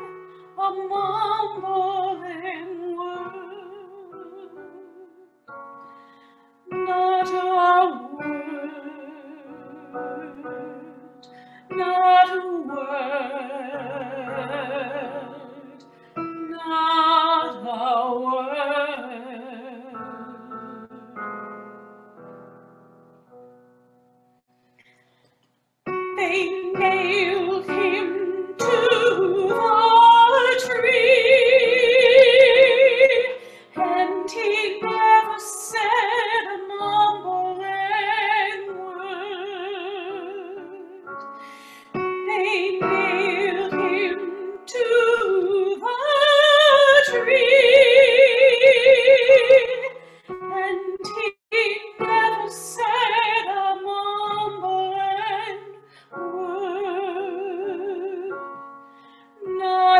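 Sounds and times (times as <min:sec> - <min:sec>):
woman singing with vibrato: 0:00.0 - 0:05.3, 0:06.7 - 0:21.3, 0:26.1 - 0:41.1, 0:41.8 - 0:58.6, 0:59.4 - 0:59.9
piano accompaniment: 0:00.0 - 0:59.9.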